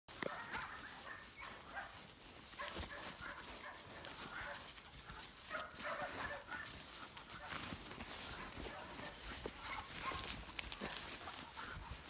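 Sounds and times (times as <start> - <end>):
footsteps in dry grass: 0.1 - 12.0.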